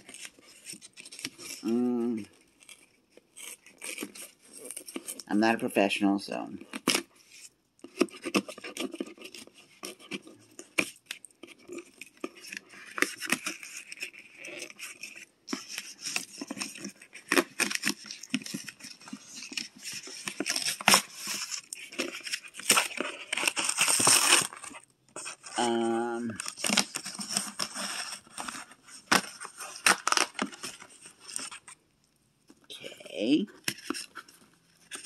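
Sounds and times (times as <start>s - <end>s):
plastic packaging rustling and tearing: 0.0s - 5.3s, 6.6s - 31.8s, 33.5s - 35.0s.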